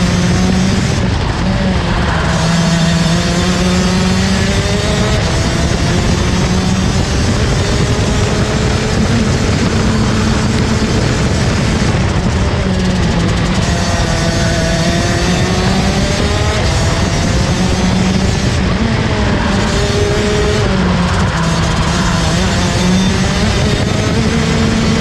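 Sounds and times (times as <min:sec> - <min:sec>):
kart engine running: 0:00.0 - 0:25.0
wind noise: 0:00.0 - 0:25.0.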